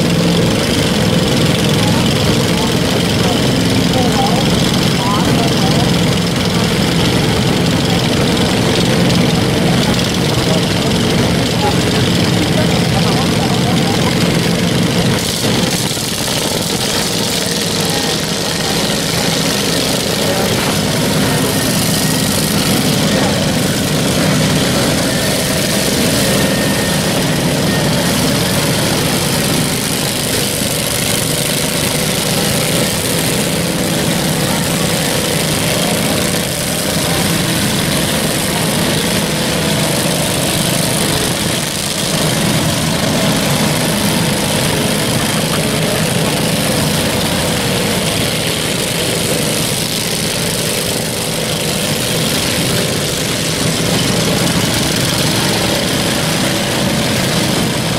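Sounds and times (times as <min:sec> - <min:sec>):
lawn mower engines running: 0:00.0 - 0:57.9.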